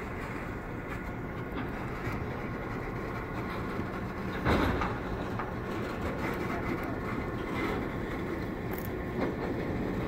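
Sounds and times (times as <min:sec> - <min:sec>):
diesel locomotive engine drone: 0:00.0 - 0:10.0
train wheels rumbling on rails: 0:00.0 - 0:10.0.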